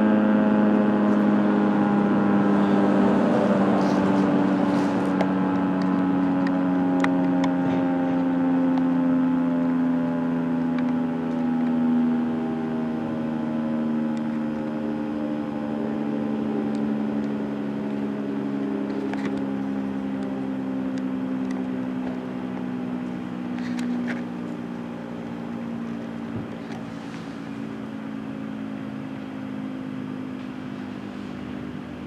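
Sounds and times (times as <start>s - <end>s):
rotating warning siren: 0.0s - 32.0s.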